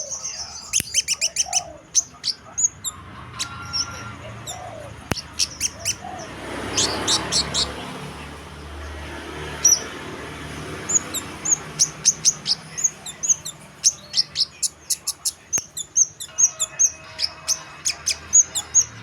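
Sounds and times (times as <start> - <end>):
songbird chirping and whistling: 0.0 - 7.8, 10.9 - 19.0.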